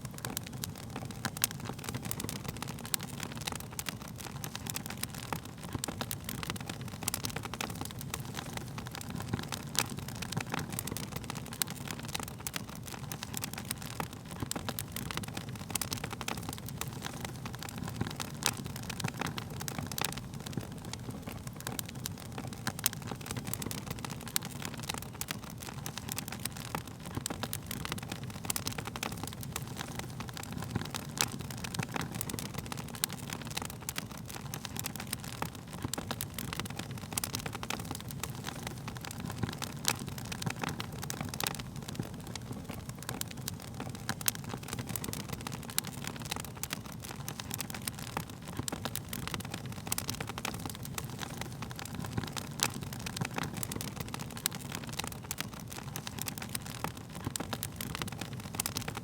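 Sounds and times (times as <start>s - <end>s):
fire flames rumbling: 0.0s - 59.0s
wood crackling and popping: 0.0s - 59.0s.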